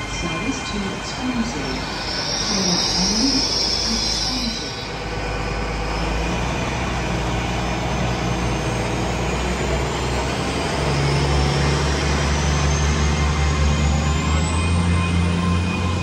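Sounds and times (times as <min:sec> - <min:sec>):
high whine rising in pitch: 0:00.0 - 0:16.0
train engine drone: 0:00.0 - 0:16.0.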